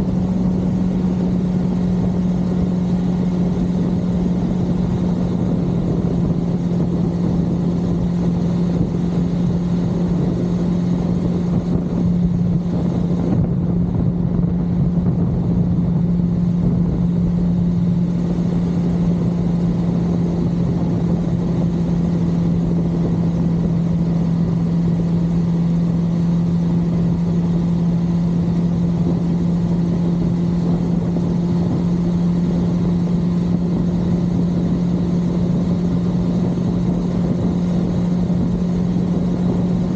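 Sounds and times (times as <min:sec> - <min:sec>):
low rush of noise: 0:00.0 - 0:39.9
motorcycle engine cruising: 0:00.0 - 0:39.9.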